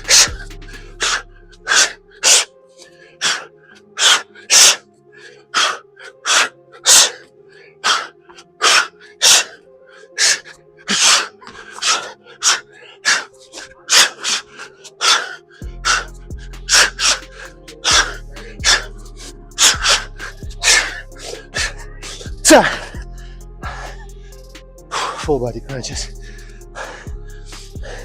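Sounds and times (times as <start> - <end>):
faint background music: 0.0 - 28.0.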